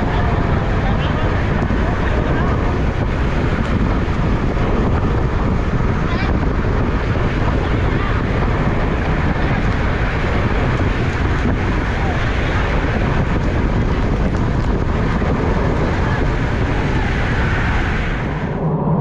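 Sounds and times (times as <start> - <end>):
vehicle and road noise: 0.0 - 19.0
wind rushing over microphone: 0.0 - 19.0.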